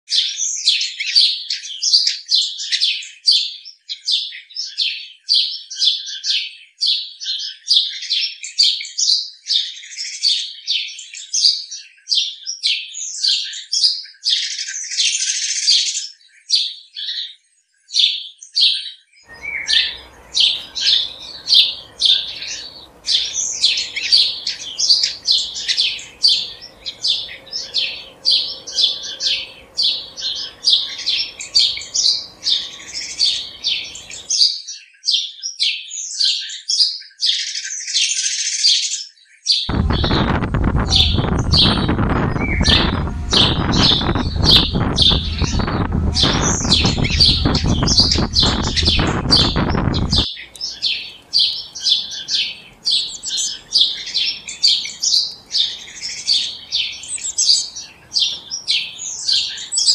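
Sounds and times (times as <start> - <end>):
small birds chirping: 9.3 - 59.9.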